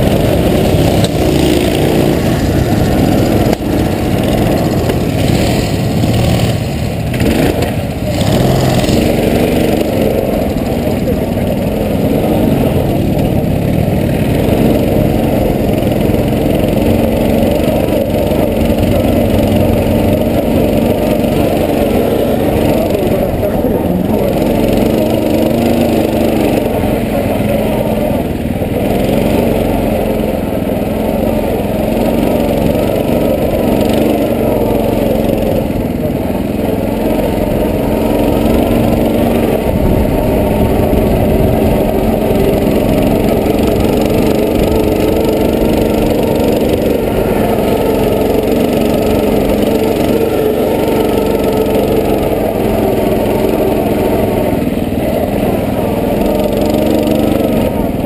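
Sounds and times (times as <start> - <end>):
low rumble of ride: 0.0 - 58.0
quad bike engine revving: 0.0 - 58.0.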